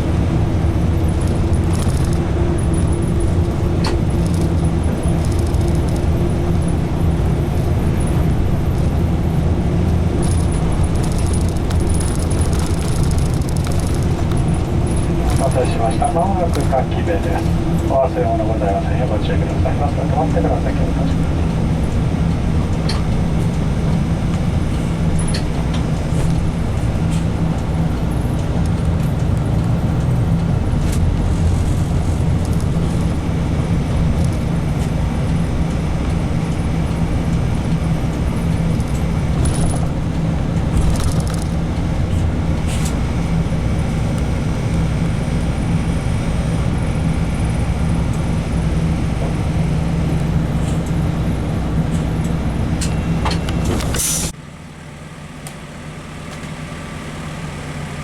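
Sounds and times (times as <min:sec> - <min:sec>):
bus diesel engine drone: 0:00.0 - 0:58.0
bus interior rattles and clicks: 0:00.0 - 0:58.0.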